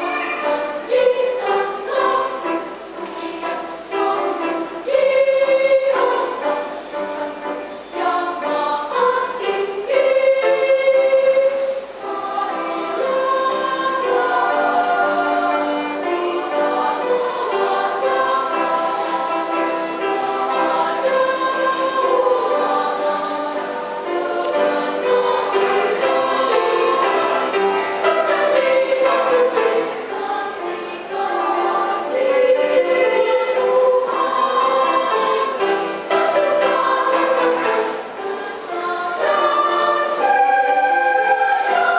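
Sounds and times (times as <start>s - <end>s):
children's choir singing: 0.0s - 41.9s.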